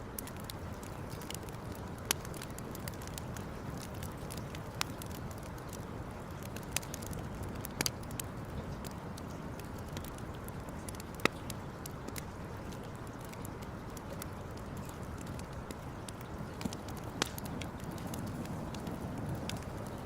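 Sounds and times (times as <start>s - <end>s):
low fire hiss: 0.0s - 20.0s
campfire pops and snaps: 0.1s - 20.0s.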